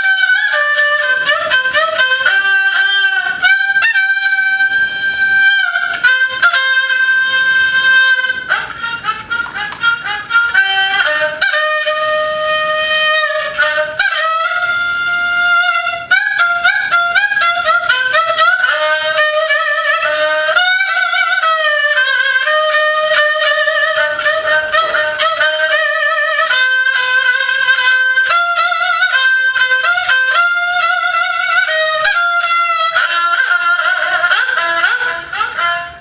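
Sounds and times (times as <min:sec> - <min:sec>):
bowed fiddle slow melody: 0:00.0 - 0:36.0.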